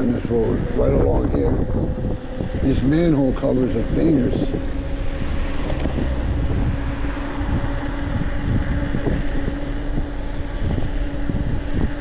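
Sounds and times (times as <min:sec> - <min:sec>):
electric motor whining: 0:00.0 - 0:12.0
wind on microphone: 0:00.0 - 0:12.0.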